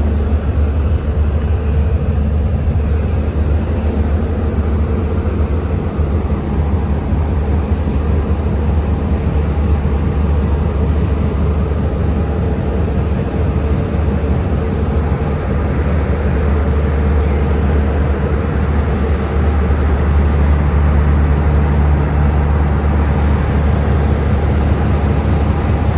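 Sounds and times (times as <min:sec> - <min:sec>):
diesel train engine droning: 0:00.0 - 0:25.9.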